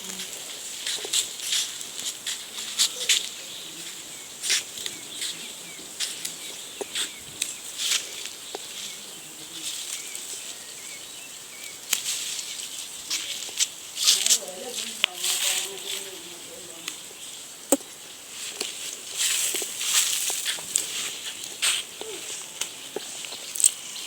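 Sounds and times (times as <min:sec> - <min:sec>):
high outdoor hiss: 0:00.0 - 0:24.0
leafy plants rustling: 0:00.0 - 0:24.0.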